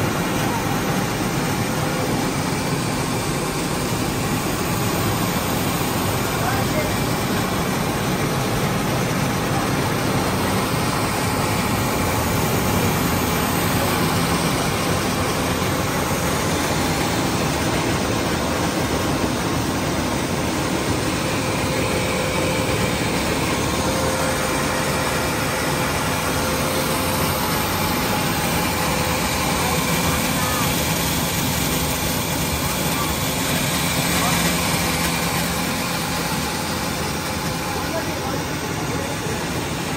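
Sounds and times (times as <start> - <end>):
rice mill whirring: 0.0 - 39.9.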